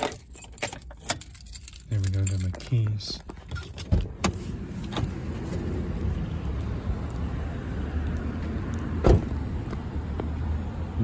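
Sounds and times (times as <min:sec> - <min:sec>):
car engine low rumble: 0:00.0 - 0:11.0.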